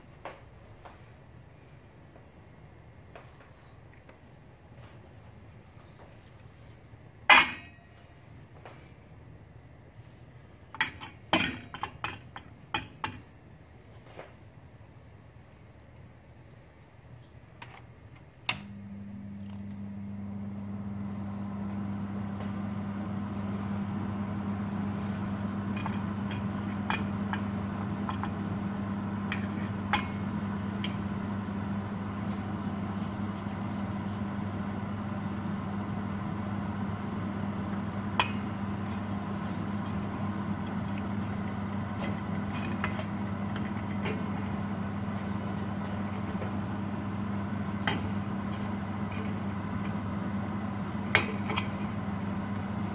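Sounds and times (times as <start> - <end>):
gas burner hum and hiss: 0.0 - 52.9.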